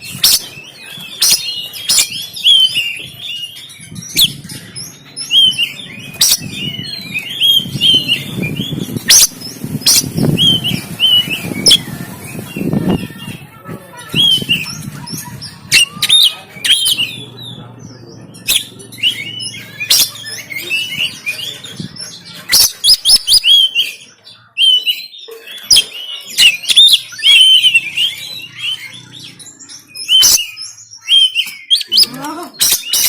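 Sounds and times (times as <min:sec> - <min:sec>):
songbird singing whistles and chirps: 0:00.0 - 0:13.1, 0:18.4 - 0:33.0.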